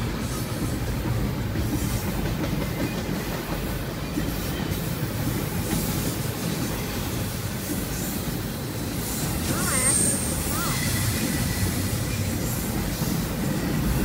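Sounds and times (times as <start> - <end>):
freight train wheels on rails: 0.0 - 14.0.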